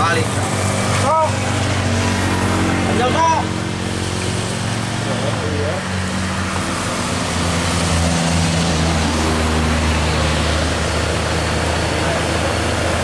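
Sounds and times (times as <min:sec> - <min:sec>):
diesel truck engine labouring: 0:00.0 - 0:13.0.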